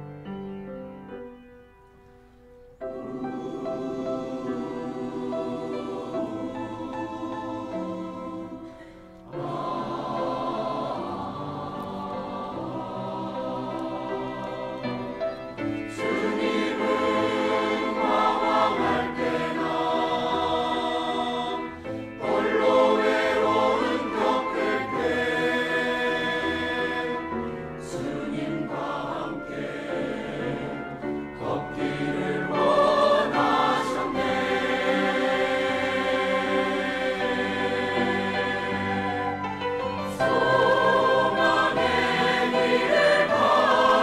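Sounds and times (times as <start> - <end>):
mixed choir singing: 2.8 - 44.0.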